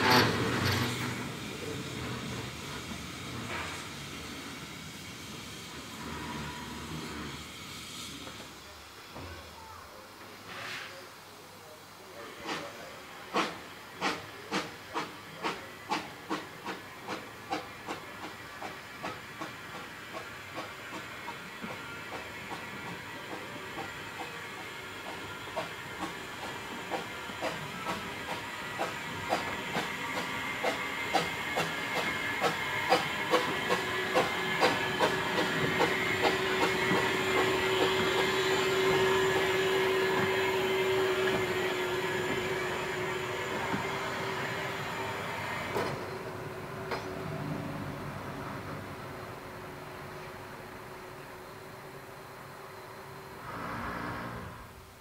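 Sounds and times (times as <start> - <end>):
steam locomotive chuffing: 0.0 - 8.7, 12.1 - 55.0
train wheels running noise: 0.0 - 9.7, 12.2 - 55.0.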